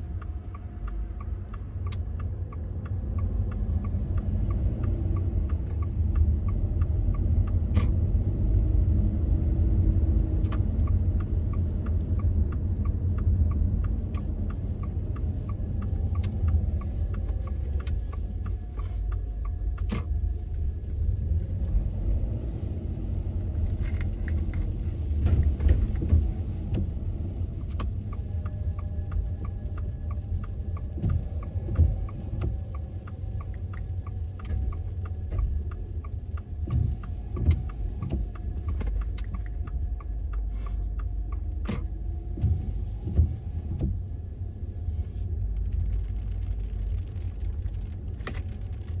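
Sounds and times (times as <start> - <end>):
light ticking: 0.0 - 22.4, 23.3 - 44.1
road and engine rumble: 0.0 - 49.0.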